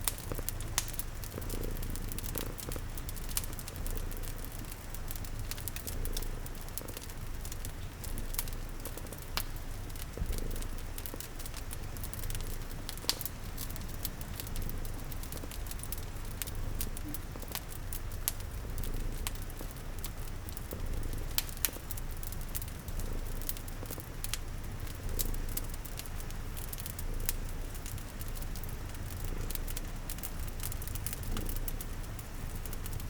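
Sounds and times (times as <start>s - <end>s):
cat purring: 0.0s - 33.0s
rain pattering: 0.0s - 33.0s
wood fire crackling and popping: 0.0s - 33.0s.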